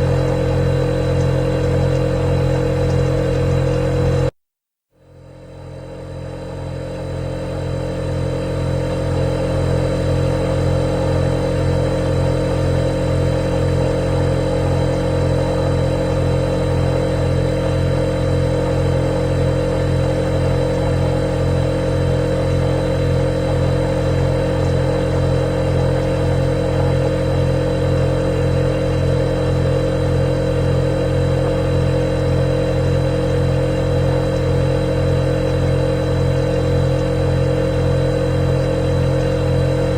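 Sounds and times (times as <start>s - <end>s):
refrigerator compressor hum: 0.0s - 4.4s, 5.0s - 39.9s.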